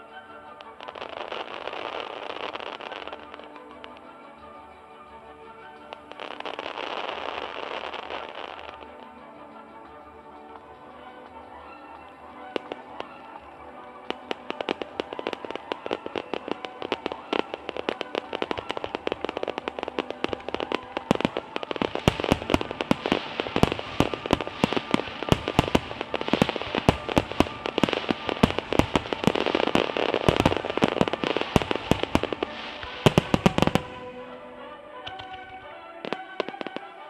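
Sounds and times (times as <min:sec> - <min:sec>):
fireworks bursting: 0:00.0 - 0:37.0
music with held notes: 0:00.0 - 0:37.0.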